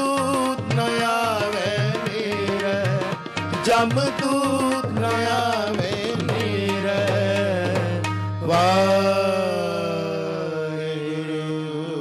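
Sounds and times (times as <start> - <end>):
tabla strokes: 0.0 - 9.8
harmonium drone: 0.0 - 12.0.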